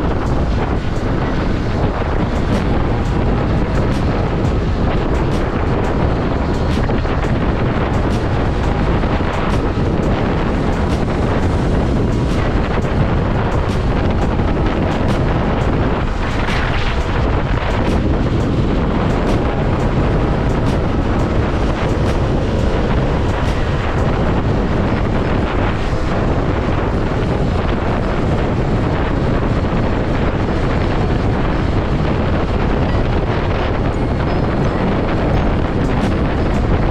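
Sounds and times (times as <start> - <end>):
wind rushing over microphone: 0.0 - 36.9.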